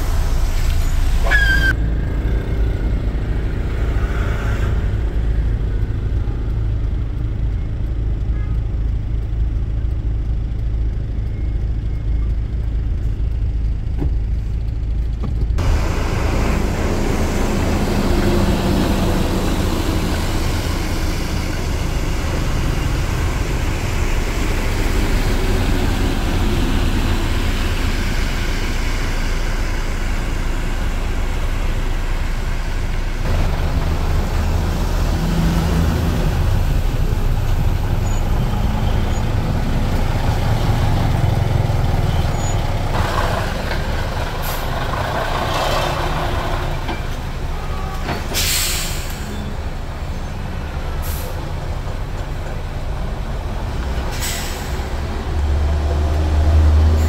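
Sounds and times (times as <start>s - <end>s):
trucks passing on wet road: 0.0s - 11.7s, 12.5s - 57.0s
low engine rumble: 0.0s - 57.0s.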